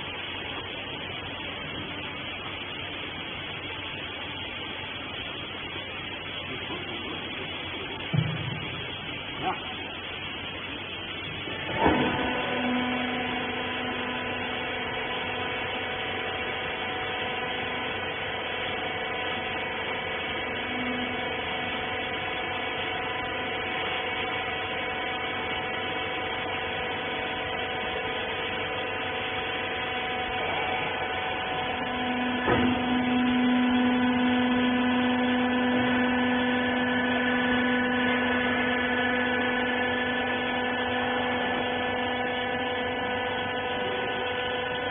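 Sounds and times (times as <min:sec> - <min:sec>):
hydraulic press motor humming: 0:00.0 - 0:44.9.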